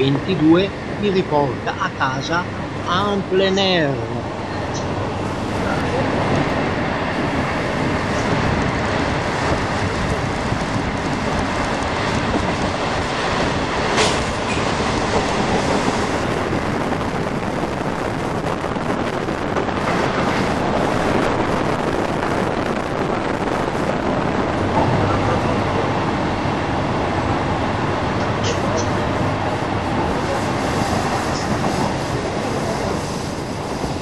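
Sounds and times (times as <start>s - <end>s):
train wheels on rails: 4.2s - 34.0s.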